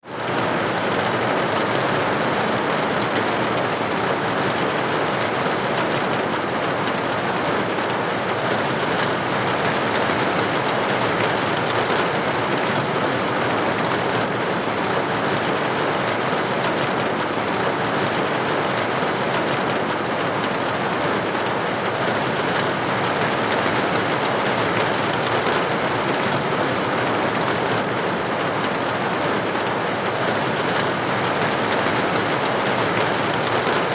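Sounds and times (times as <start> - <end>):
rain on a hard surface: 0.1 - 33.9.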